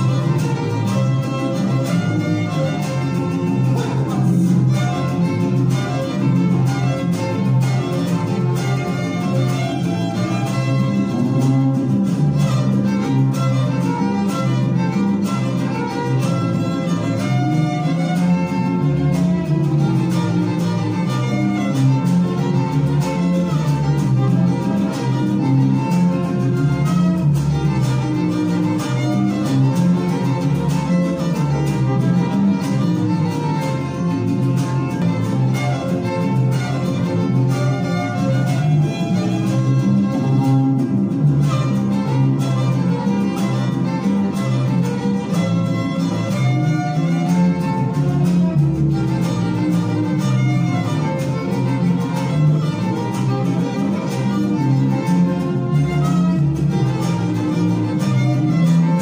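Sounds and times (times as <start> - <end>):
electric bass: 0.0 - 59.0
strummed small guitar: 0.0 - 59.0
violins playing: 0.0 - 59.0.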